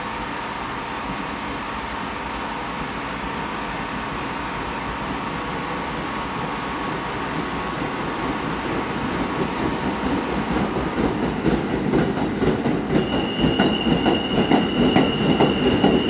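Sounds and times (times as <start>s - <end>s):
subway train rolling by: 0.0s - 16.0s.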